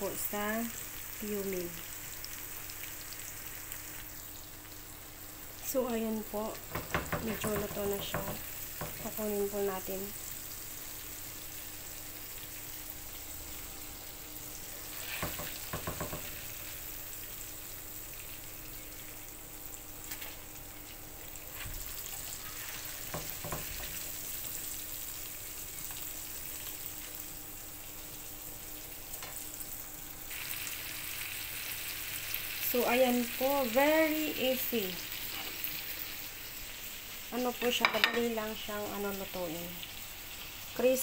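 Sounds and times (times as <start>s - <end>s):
prawns deep-frying in oil: 0.0s - 41.0s.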